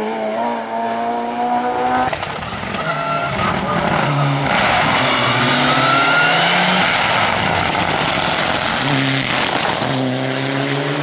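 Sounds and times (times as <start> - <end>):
race car engine revving: 0.0 - 11.0
rally car passing at speed: 0.0 - 11.0.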